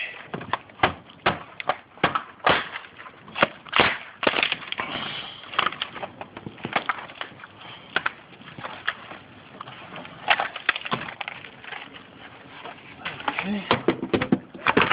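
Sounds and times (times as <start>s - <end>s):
wood cracking and knocking: 0.3s - 14.9s.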